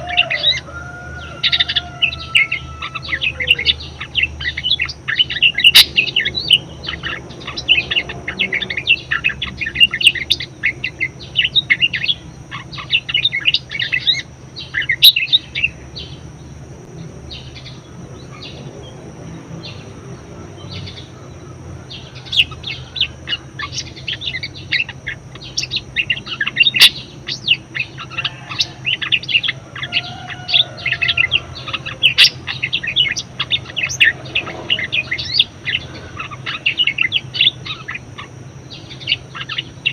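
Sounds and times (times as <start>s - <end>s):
budgerigar chirping and warbling: 0.0s - 16.2s, 20.6s - 39.9s
faint steady hum: 0.0s - 39.9s.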